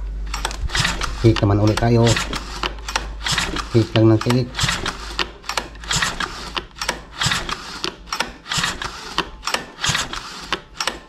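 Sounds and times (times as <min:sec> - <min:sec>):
engine cranking without firing: 0:00.2 - 0:11.0.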